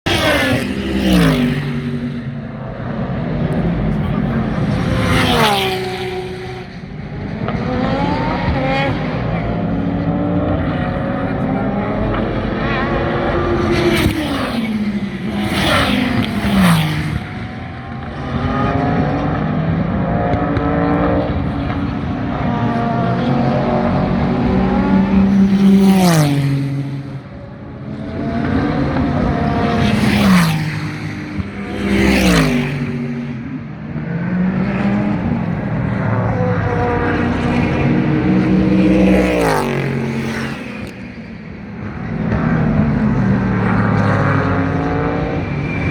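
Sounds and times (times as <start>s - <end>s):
engines revving: 0.0s - 45.9s
race cars passing at speed: 0.0s - 45.9s.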